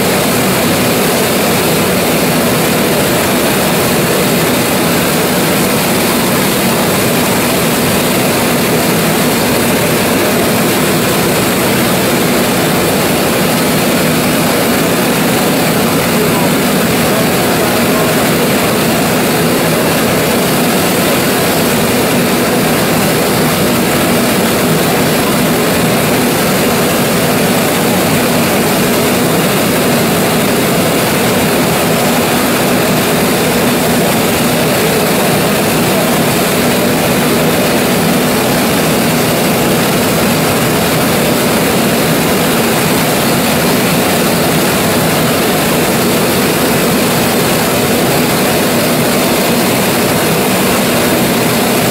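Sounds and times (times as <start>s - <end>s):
oil engine running: 0.0s - 51.9s.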